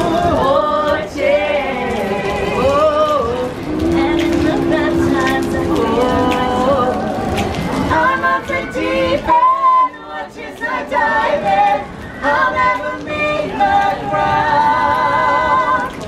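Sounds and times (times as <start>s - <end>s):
a cappella group singing: 0.0s - 16.0s.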